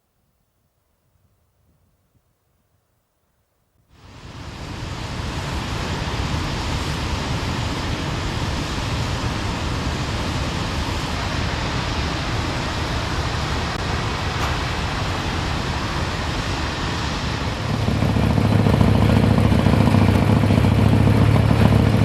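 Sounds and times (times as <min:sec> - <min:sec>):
wind and road noise at speed: 0:04.0 - 0:22.0.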